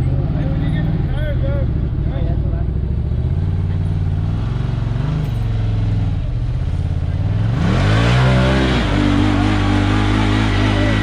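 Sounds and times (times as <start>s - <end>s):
utility vehicle engine revving: 0.0s - 11.0s.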